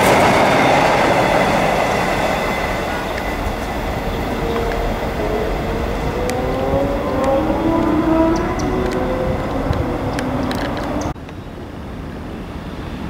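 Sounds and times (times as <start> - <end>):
electric train whine: 0.0 - 13.0
wheel and rail noise: 0.0 - 13.0.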